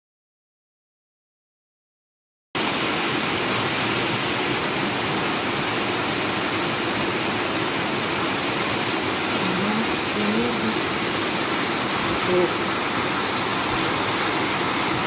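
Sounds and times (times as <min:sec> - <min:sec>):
heavy rain: 0:02.6 - 0:15.0.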